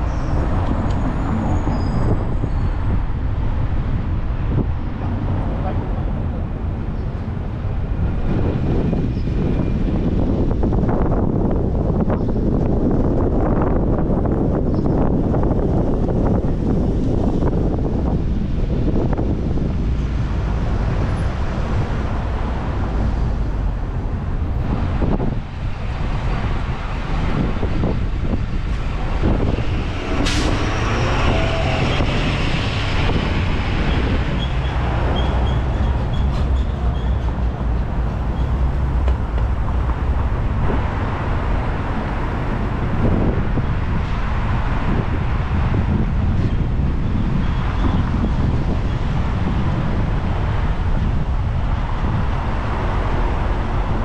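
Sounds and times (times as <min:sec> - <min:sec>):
road and traffic rumble: 0:00.0 - 0:54.0.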